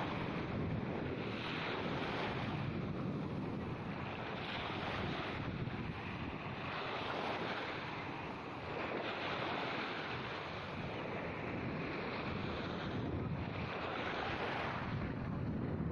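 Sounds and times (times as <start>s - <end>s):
sea waves washing on shore: 0.0s - 15.9s
wind buffeting the microphone: 0.0s - 15.9s.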